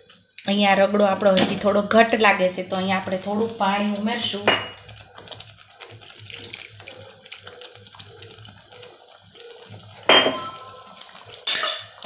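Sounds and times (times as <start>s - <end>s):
water pouring into a pan: 0.0s - 12.0s.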